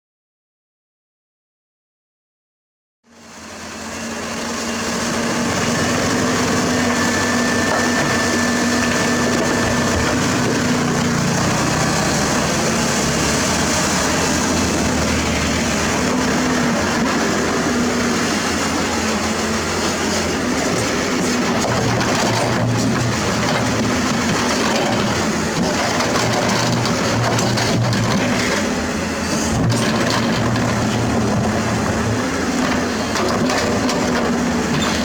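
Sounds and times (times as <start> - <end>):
heavy diesel machinery running: 3.1 - 35.0.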